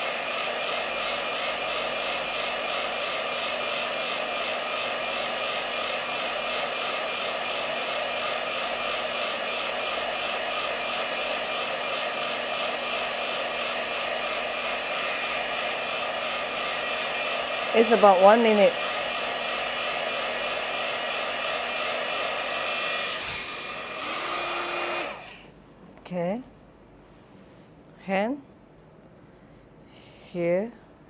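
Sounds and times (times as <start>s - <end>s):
small fan whirring: 0.0s - 25.6s.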